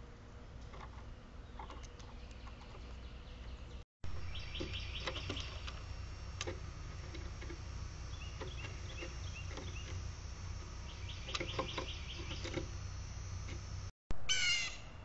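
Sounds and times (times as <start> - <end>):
low steady background rumble: 0.0 - 15.0
small songbirds chirping: 1.4 - 13.9.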